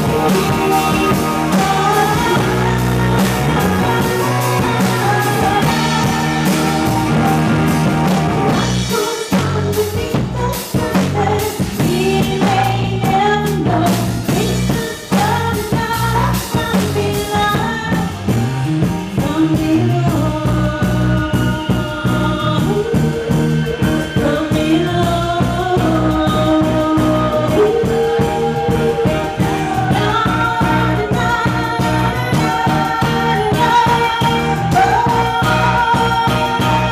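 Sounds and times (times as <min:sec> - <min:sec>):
person singing: 0:00.0 - 0:18.2, 0:19.2 - 0:36.9
live rock band playing: 0:00.0 - 0:36.9.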